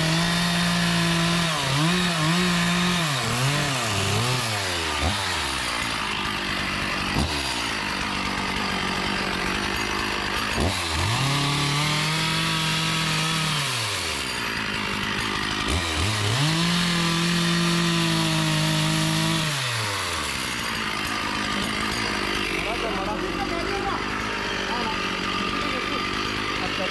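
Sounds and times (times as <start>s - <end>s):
chainsaw engine revving: 0.0s - 26.9s.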